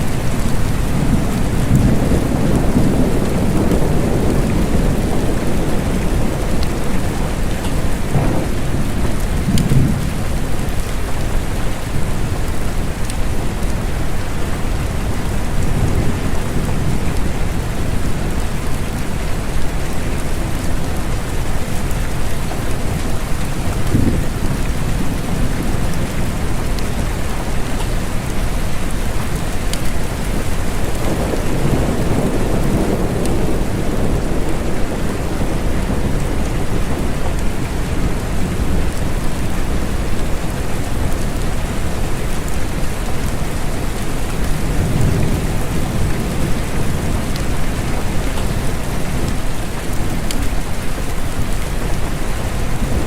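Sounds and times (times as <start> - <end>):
rain falling: 0.0 - 53.0
thunder rumbling: 0.0 - 53.0.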